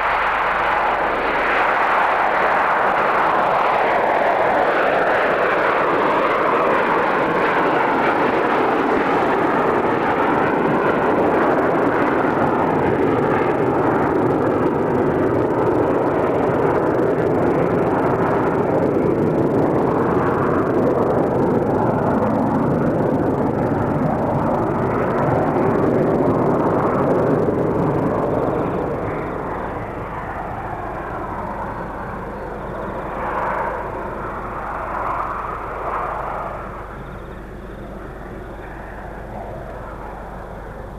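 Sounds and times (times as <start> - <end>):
jet engines at takeoff: 0.0 - 40.9.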